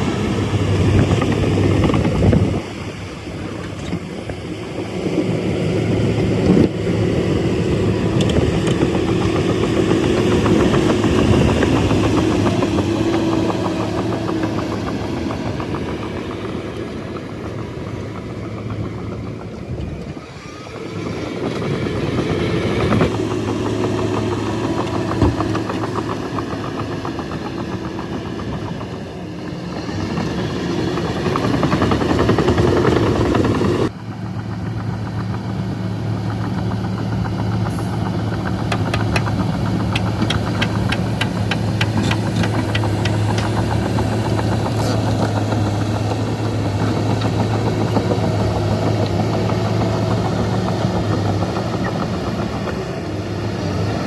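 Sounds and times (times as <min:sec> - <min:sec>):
bulldozer diesel engine working: 0:00.0 - 0:54.0
fast even ticking clatter: 0:07.8 - 0:19.7, 0:21.6 - 0:53.7.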